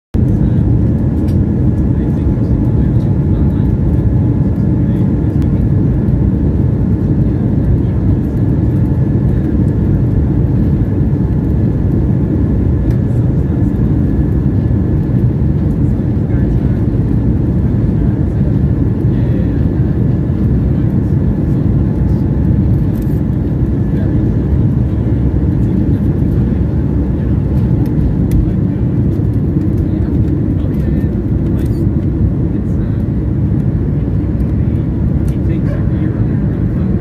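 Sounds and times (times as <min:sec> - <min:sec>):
aircraft engines and wheels rumbling: 0:00.1 - 0:37.0.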